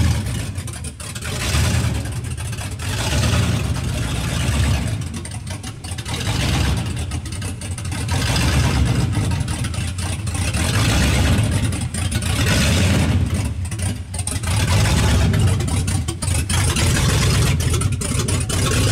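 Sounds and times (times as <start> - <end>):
loud deep engine idling: 0.0 - 18.9.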